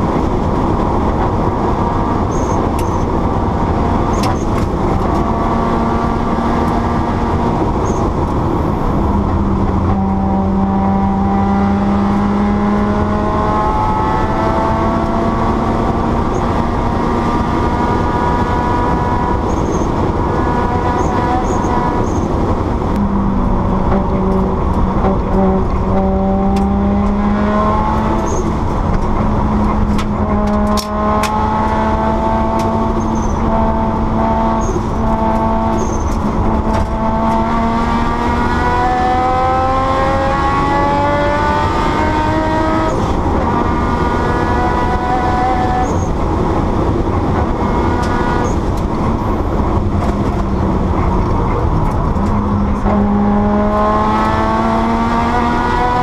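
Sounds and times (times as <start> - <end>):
car engine revving through gears: 0.0 - 56.0
tyre and road noise: 0.0 - 56.0.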